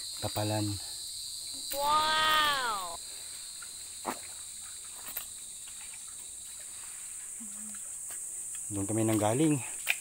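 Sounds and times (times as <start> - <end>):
insects buzzing: 0.0 - 10.0.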